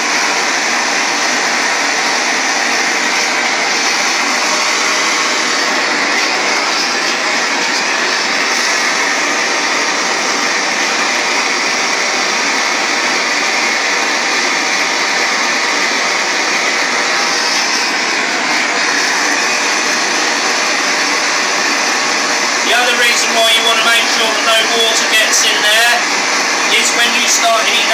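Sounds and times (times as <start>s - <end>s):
gas torch burning: 0.0s - 27.9s.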